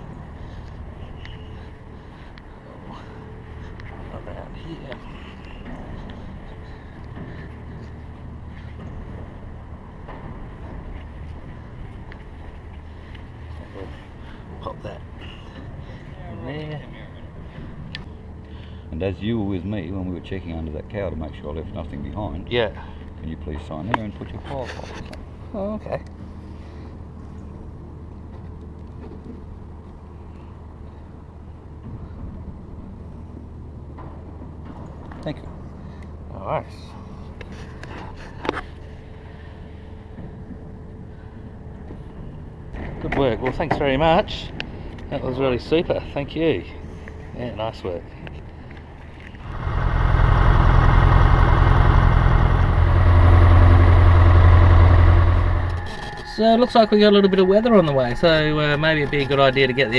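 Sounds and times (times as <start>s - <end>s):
propeller plane engine droning: 0.0s - 56.4s
low background rumble and hum: 0.0s - 59.9s.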